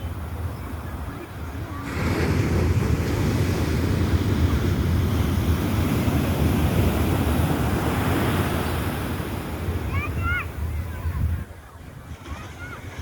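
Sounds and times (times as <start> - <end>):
sea waves washing on beach: 0.0 - 13.0
wind buffeting microphone: 0.0 - 13.0.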